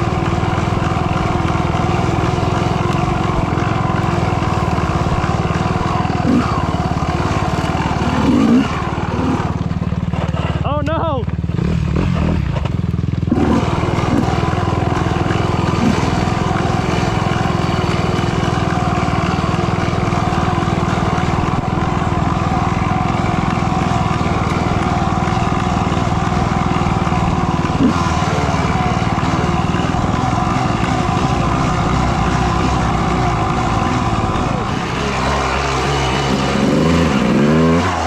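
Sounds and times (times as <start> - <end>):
dirt bike engine under throttle: 0.0 - 38.0.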